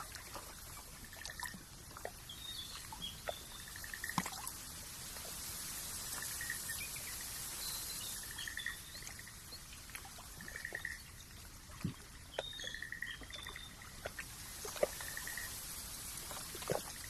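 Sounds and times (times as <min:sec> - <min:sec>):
trickling water: 0:00.0 - 0:17.0.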